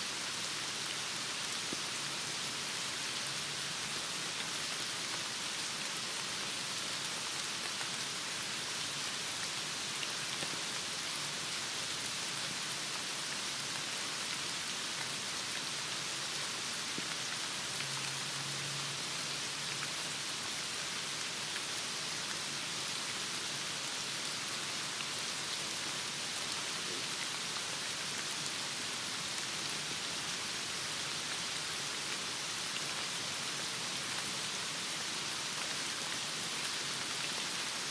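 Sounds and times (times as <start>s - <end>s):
heavy rain falling: 0.1s - 37.9s.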